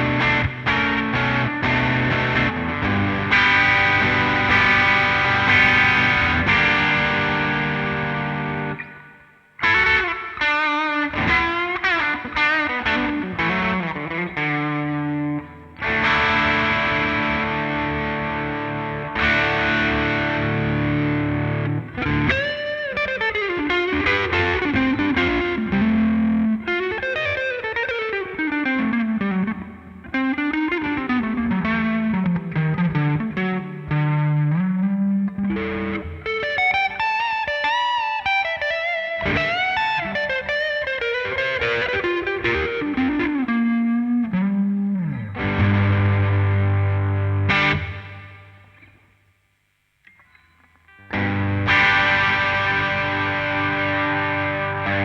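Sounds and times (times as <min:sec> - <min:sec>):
overdriven electric guitar: 0:00.0 - 0:49.2, 0:50.0 - 0:55.0.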